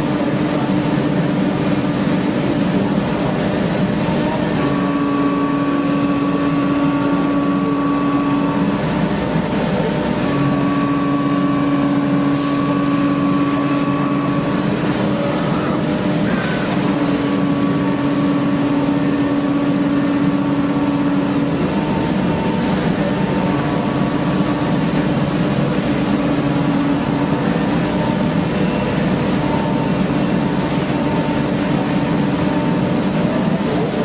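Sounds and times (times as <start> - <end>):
factory machinery running: 0.0 - 34.0
humming tone: 3.9 - 34.0.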